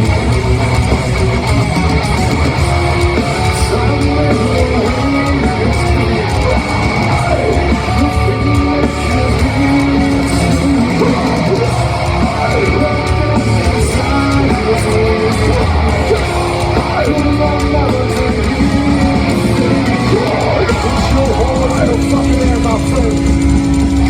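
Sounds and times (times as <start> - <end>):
distorted electric guitars: 0.0 - 24.0
drums: 0.0 - 24.0
sung and shouted vocals: 3.1 - 23.3.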